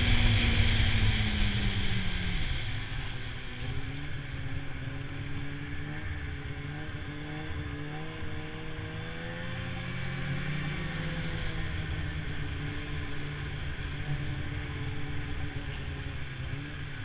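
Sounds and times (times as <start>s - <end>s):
low rumble and rushing noise: 0.0s - 17.0s
snowmobile engine running: 0.0s - 17.0s.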